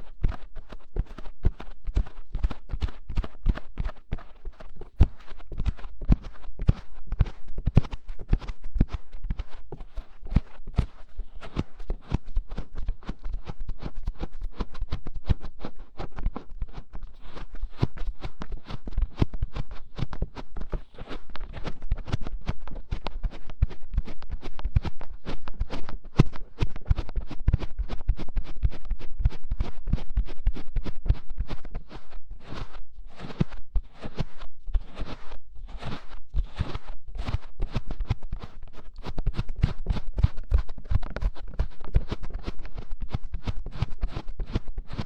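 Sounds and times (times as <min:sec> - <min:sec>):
fingers scratching a microphone: 0:00.0 - 0:45.0.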